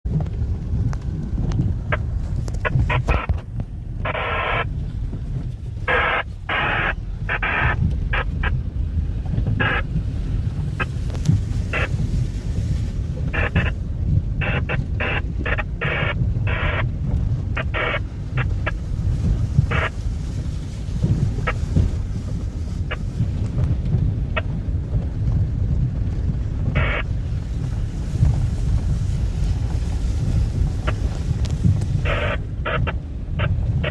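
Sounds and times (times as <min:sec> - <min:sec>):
off-road vehicle rumble: 0:00.0 - 0:33.9
wind buffeting microphone: 0:00.0 - 0:33.9.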